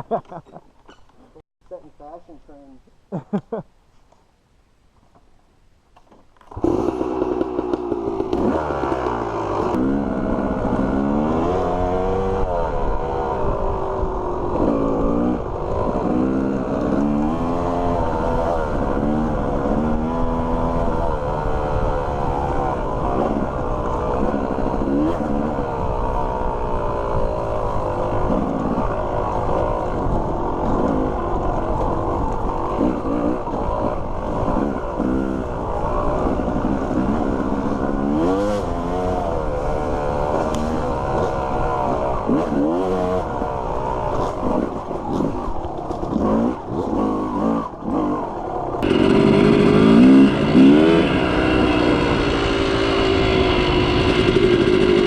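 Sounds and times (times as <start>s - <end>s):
dirt bike engine revving: 6.5s - 55.0s.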